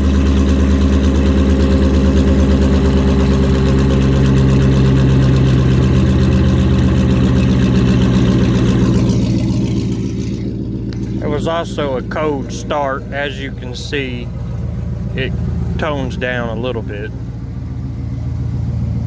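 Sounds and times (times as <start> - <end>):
car engine idling loud: 0.0 - 19.0.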